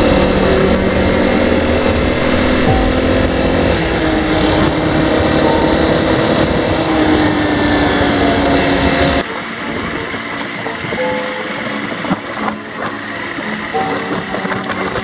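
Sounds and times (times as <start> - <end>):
motorcycle engine cruising: 0.0 - 15.0
rushing wind: 0.0 - 15.0.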